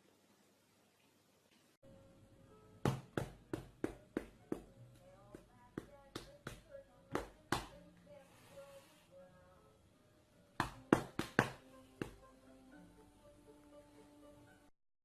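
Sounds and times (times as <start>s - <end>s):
faint background music: 0.7s - 14.7s.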